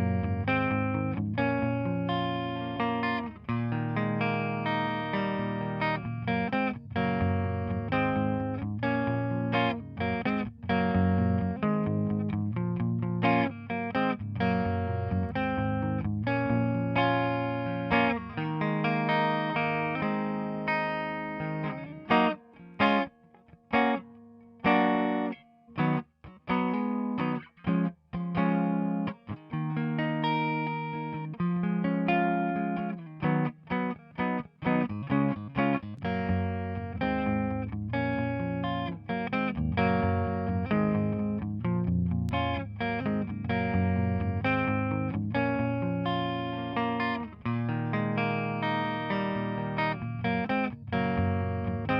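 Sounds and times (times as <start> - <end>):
electric guitar chords: 0.0 - 51.9.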